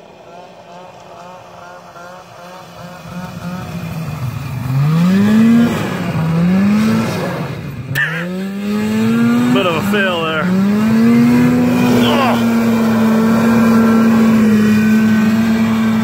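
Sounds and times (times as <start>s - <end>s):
snowmobile engine revving: 0.0s - 16.0s.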